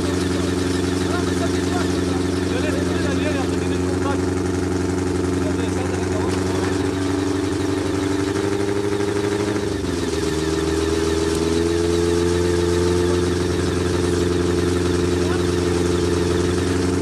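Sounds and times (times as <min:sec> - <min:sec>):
racing engine idling: 0:00.0 - 0:17.0.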